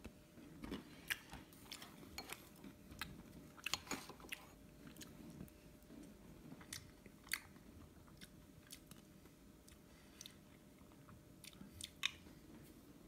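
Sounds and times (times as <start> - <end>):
chewing ice cream with nuts: 0.7 - 12.3.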